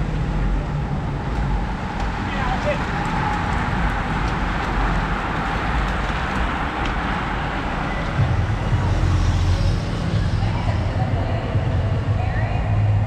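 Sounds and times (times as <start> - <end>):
bicycles passing at speed: 0.0 - 12.6.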